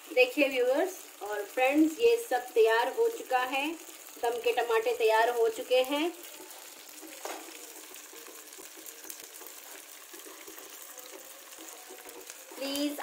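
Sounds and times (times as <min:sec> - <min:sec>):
gravy sizzling with bubbling pops: 0:00.0 - 0:13.0.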